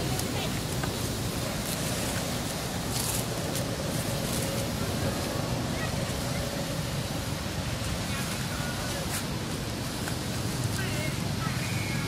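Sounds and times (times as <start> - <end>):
faint clicks and rustles: 0.0 - 11.8.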